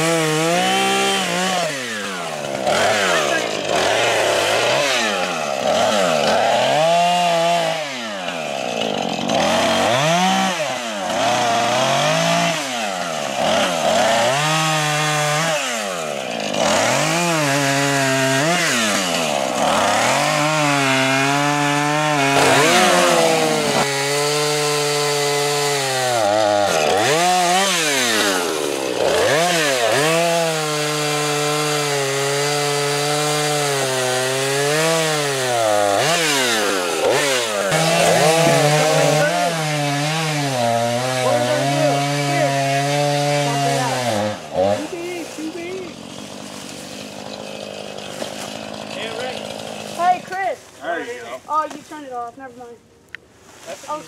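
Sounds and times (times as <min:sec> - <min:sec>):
chainsaw revving and cutting wood: 0:00.0 - 0:53.0.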